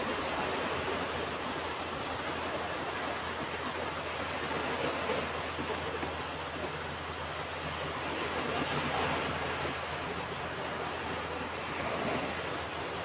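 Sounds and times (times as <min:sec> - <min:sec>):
ocean waves washing onto beach: 0:00.0 - 0:13.0.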